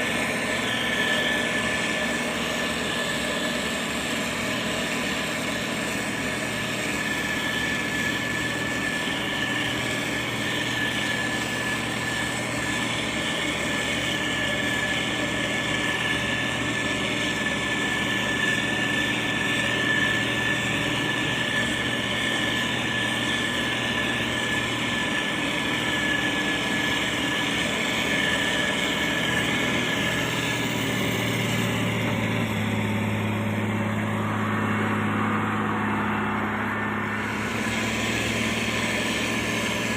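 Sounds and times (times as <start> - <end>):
diesel engine running under load: 0.0 - 39.9
thin high whine: 0.0 - 39.9.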